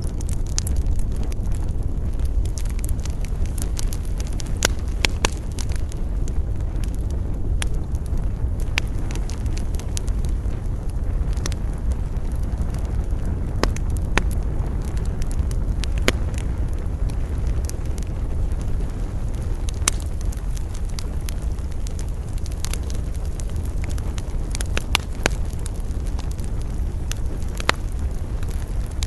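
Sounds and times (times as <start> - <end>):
burning wood crackling and popping: 0.0 - 29.0
wind rumble: 0.0 - 29.0.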